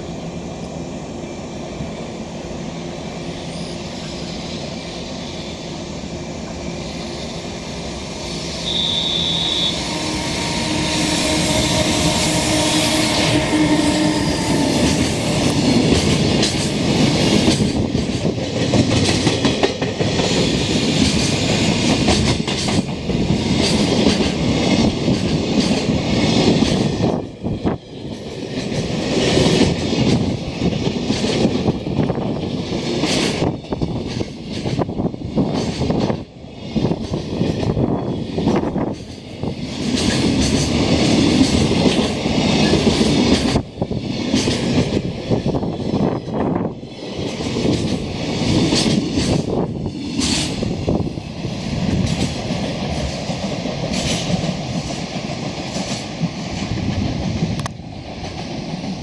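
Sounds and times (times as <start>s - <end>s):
electric locomotive hum: 0.0s - 59.0s
train wheels clattering: 8.7s - 59.0s.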